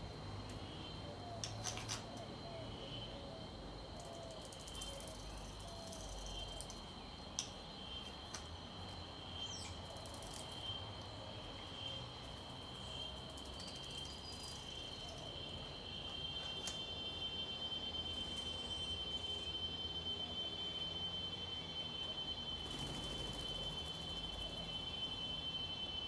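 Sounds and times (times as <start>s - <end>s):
high insect trill: 0.0s - 26.0s.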